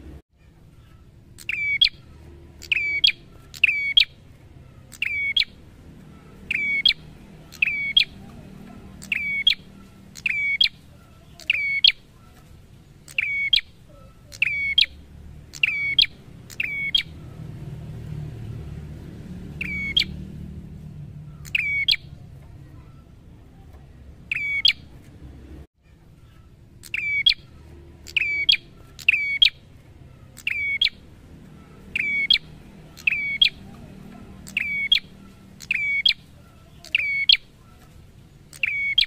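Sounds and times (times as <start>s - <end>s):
bird calling sharp rising notes: 0.8s - 12.1s, 13.0s - 22.2s, 24.3s - 24.9s, 26.3s - 37.8s.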